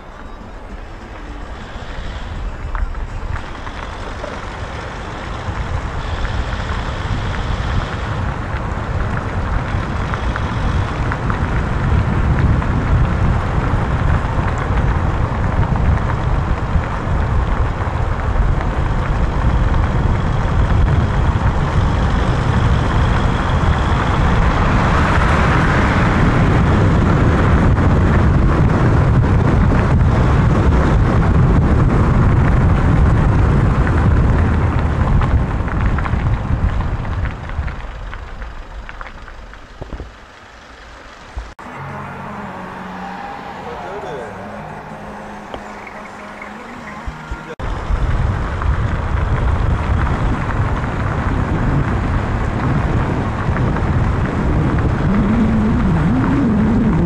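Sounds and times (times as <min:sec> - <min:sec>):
moving vehicle rumble: 0:00.0 - 0:57.0.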